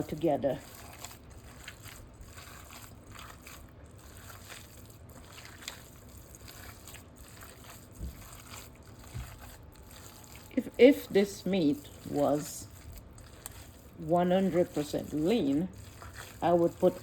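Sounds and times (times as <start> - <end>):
hands squelching raw meat: 0.0 - 17.0.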